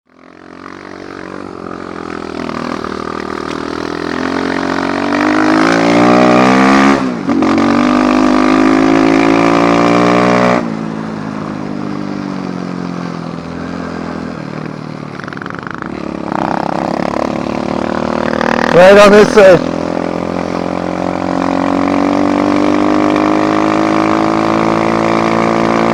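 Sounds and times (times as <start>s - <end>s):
dirt bike engine revving: 0.1s - 11.3s, 15.1s - 25.9s.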